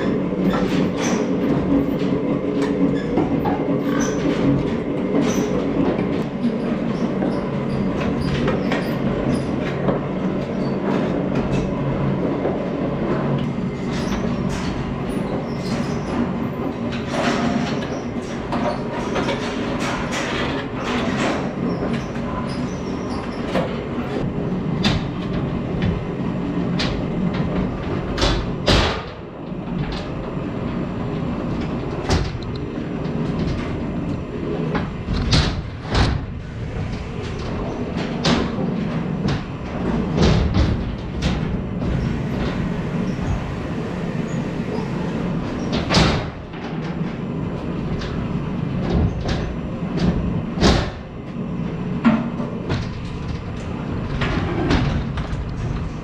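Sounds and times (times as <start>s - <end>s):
clanks and knocks: 0.0s - 56.0s
conveyor mechanical rumble: 0.0s - 56.0s.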